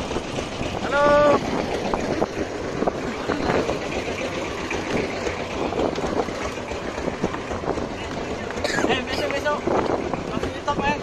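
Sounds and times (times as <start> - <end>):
motorboat engine running: 0.0 - 11.0
water noise: 0.0 - 11.0
wind: 0.0 - 11.0.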